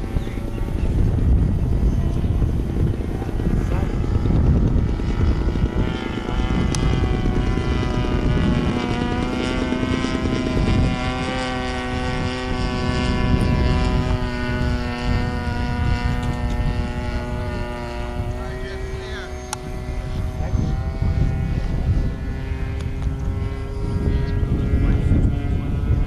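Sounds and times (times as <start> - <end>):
model plane engine droning overhead: 0.0 - 26.0.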